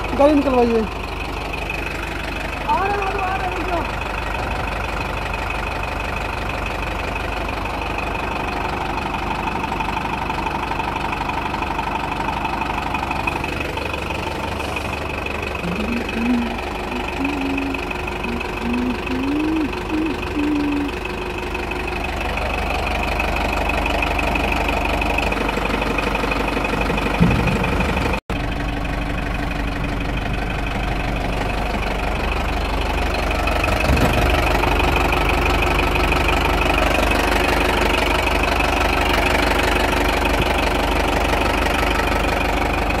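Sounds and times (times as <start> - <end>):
diesel truck engine idling: 0.0 - 43.0.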